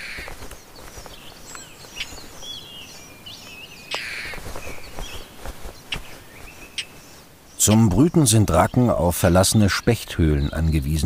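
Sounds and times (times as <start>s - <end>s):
songbirds twittering: 0.0s - 11.0s.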